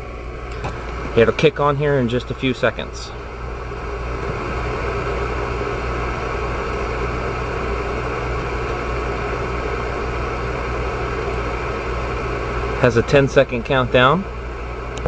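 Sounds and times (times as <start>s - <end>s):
heat pump machine hum: 0.0s - 15.0s.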